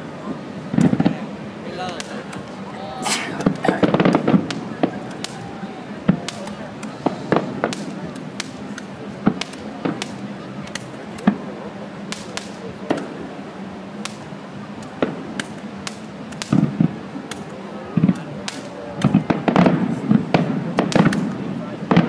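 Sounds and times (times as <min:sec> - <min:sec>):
fireworks booming bursts: 0:00.3 - 0:22.0
fireworks bangs and pops: 0:00.7 - 0:13.3, 0:14.0 - 0:22.0.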